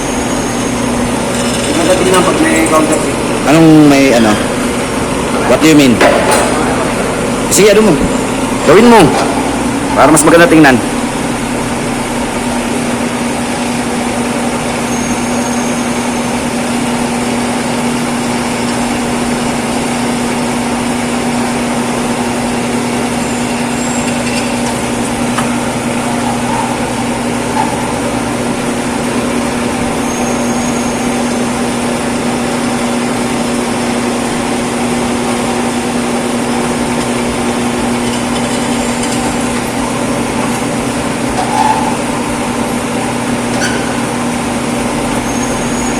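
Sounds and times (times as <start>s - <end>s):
machine hum with pitched tone: 0.0s - 45.9s.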